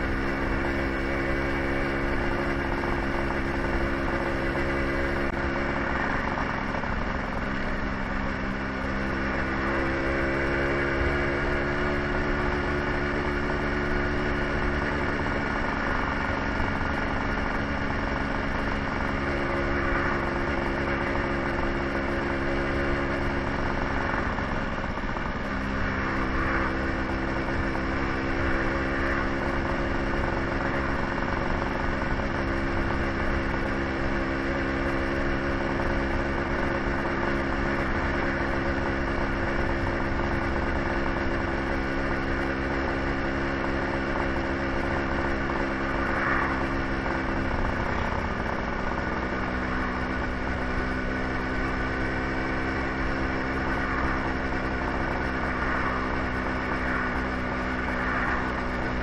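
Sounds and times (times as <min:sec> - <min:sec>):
scooter engine running: 0:00.0 - 0:59.0
wind and road noise: 0:00.0 - 0:59.0.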